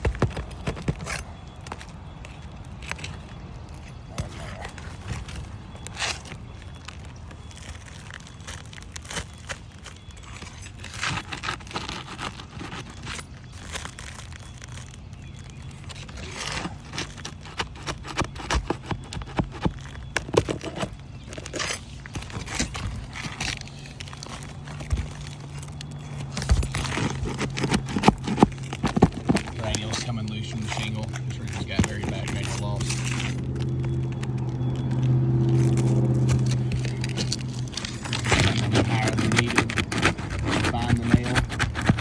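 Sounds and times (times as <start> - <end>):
scraping roof shingles: 0.0 - 42.0.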